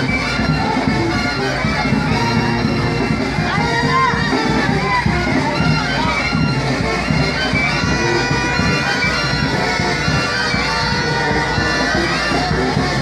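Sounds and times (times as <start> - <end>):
wind instrument music: 0.0 - 13.0.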